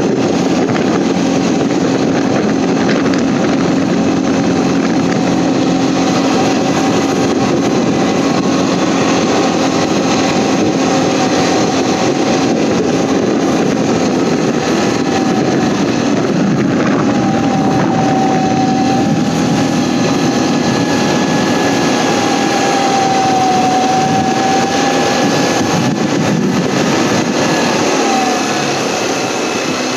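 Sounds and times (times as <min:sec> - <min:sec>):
atv engine running: 0:00.0 - 0:29.9
engine whine: 0:00.0 - 0:29.9.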